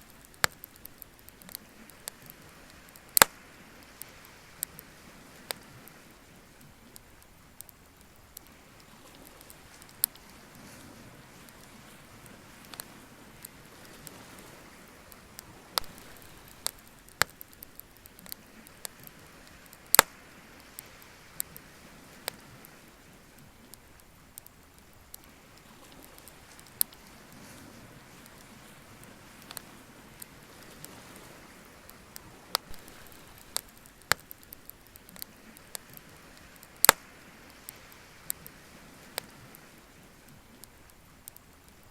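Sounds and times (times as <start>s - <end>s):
bonfire low hiss: 0.0s - 41.9s
bonfire popping and snapping: 0.0s - 41.9s
wood fire crackling: 0.0s - 41.9s.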